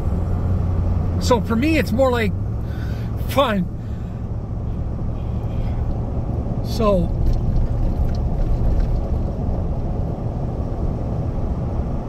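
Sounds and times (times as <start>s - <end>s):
road and engine rumble in vehicle: 0.0s - 12.0s.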